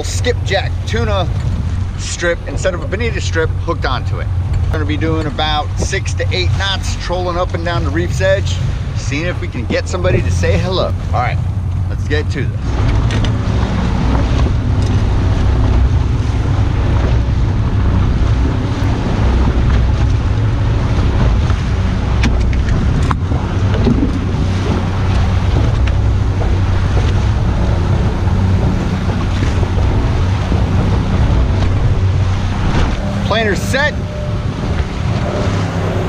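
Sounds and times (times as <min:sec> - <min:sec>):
boat wake rushing: 0:00.0 - 0:36.0
outboard motor droning: 0:00.0 - 0:36.0
wind buffeting microphone: 0:00.0 - 0:36.0.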